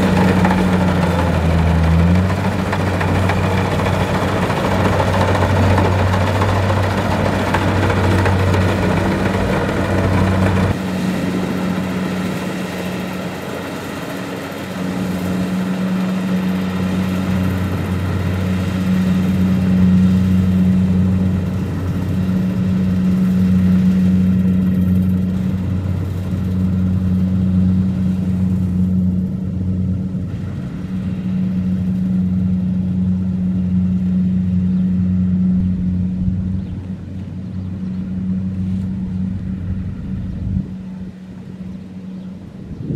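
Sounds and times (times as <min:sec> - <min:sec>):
combine harvester engine drone: 0:00.0 - 0:42.9
machinery mechanical noise: 0:00.0 - 0:42.9.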